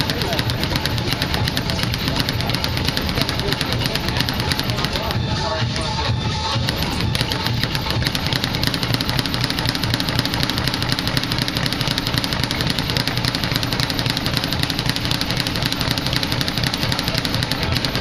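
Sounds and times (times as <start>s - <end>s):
speed bag rattling: 0.0s - 18.0s.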